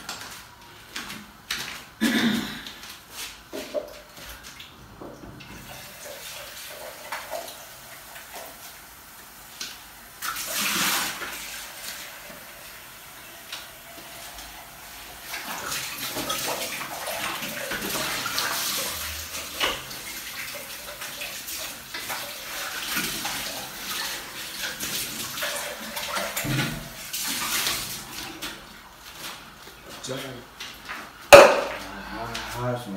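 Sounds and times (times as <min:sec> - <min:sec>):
water running from tap: 0:03.7 - 0:31.9.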